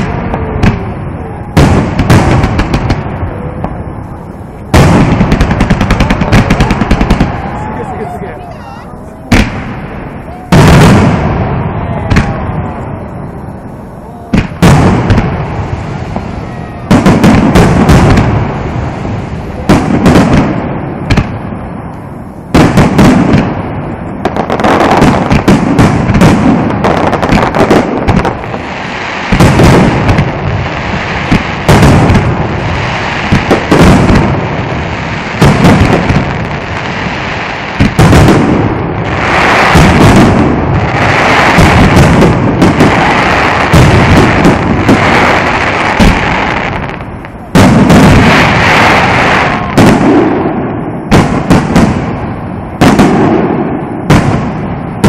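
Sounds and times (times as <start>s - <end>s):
crackling firework glitter: 0.0s - 55.0s
firework booms: 0.0s - 55.0s.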